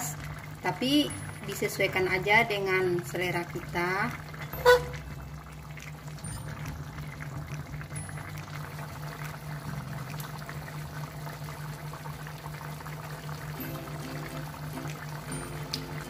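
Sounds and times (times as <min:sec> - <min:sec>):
broth bubbling in a wok: 0:00.0 - 0:16.0.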